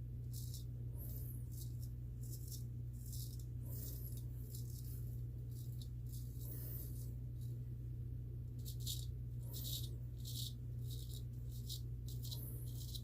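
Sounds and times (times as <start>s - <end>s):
steady low hum: 0.0s - 13.0s
razor scraping stubble: 0.2s - 7.6s, 8.6s - 13.0s.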